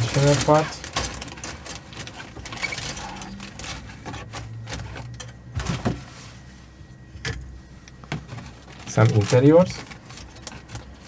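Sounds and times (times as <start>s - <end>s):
plastic parts rustling: 0.0s - 6.6s, 7.2s - 11.0s.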